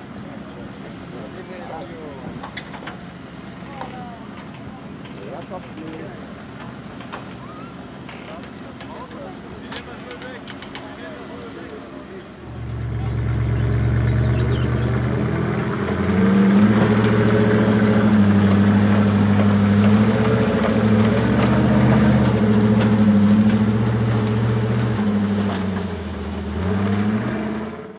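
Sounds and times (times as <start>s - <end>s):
heavy truck engine under load: 0.0s - 27.9s.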